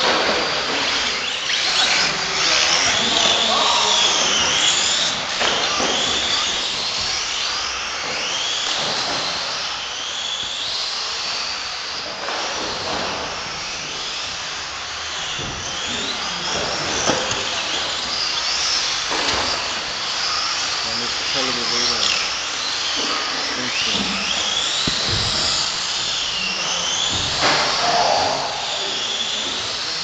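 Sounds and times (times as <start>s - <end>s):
electric rc car motors whining: 0.0s - 30.0s.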